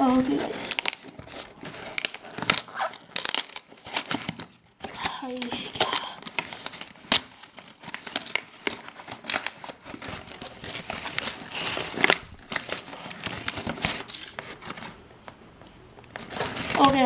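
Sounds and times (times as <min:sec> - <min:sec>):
cardboard box being torn open: 0:00.0 - 0:14.2.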